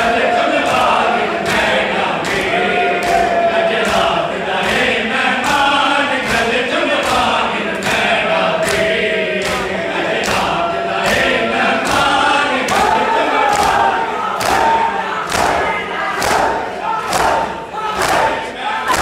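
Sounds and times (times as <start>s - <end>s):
men chanting together: 0.0s - 19.0s
hands slapping chests: 0.6s - 19.0s.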